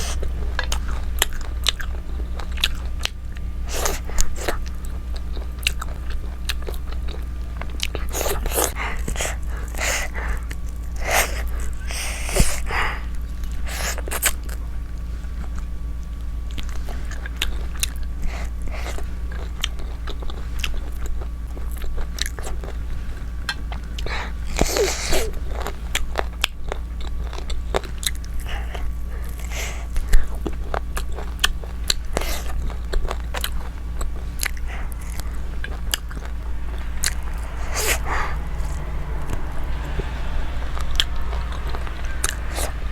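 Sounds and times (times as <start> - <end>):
wet chewing and biting: 0.0 - 14.7, 15.3 - 39.9
steady low hum: 0.0 - 42.9.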